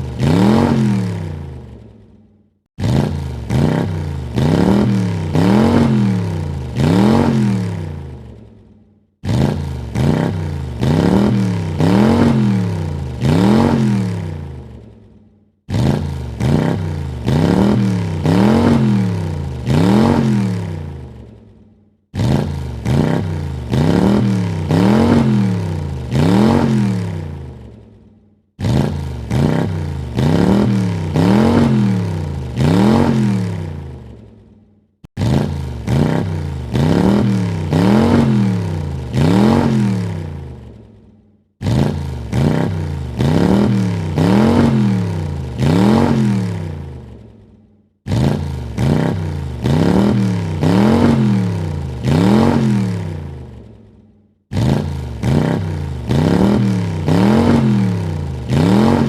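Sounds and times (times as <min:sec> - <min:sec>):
car engine revving: 0:00.0 - 0:01.9, 0:02.8 - 0:08.4, 0:09.2 - 0:14.9, 0:15.7 - 0:21.5, 0:22.1 - 0:27.8, 0:28.6 - 0:34.3, 0:35.1 - 0:40.8, 0:41.6 - 0:47.3, 0:48.1 - 0:53.7, 0:54.5 - 0:59.0.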